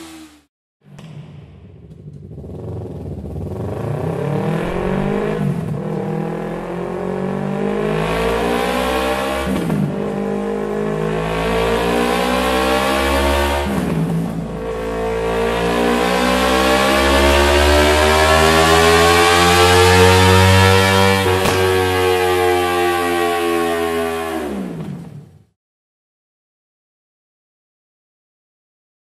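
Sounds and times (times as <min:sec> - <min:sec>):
motorcycle engine revving: 0:00.0 - 0:25.3.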